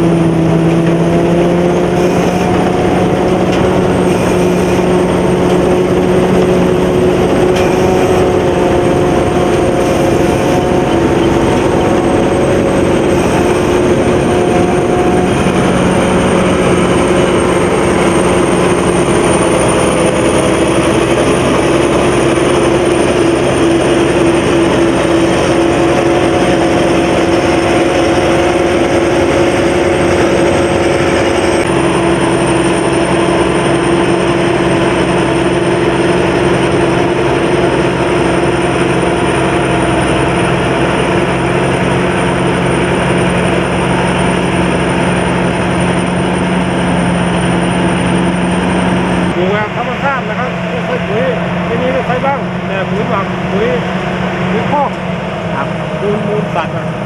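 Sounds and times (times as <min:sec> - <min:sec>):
combine harvester drone: 0:00.0 - 0:57.0
high thin whine: 0:00.0 - 0:57.0.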